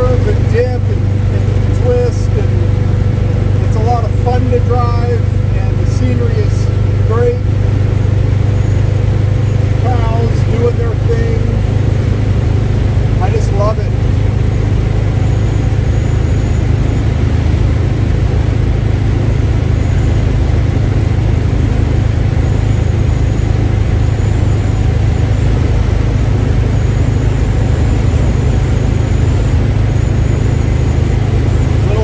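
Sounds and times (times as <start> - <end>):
car engine drone: 0.0 - 32.0
road and wind noise: 0.0 - 32.0.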